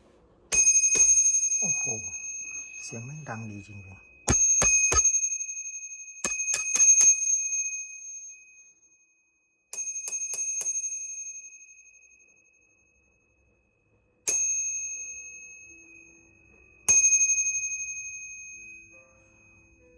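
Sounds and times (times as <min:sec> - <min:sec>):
bicycle bell dings: 0:00.5 - 0:08.7, 0:09.7 - 0:12.1, 0:14.3 - 0:19.9.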